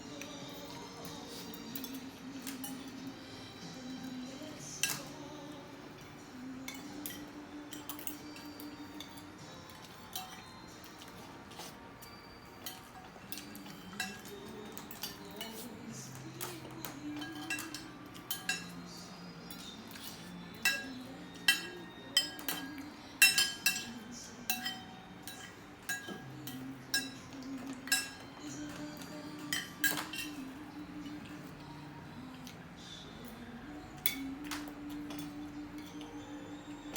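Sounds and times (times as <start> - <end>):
soft background music: 0.0 - 36.9
cutlery clinking on a plate: 0.2 - 3.2, 4.1 - 5.4, 6.0 - 31.5.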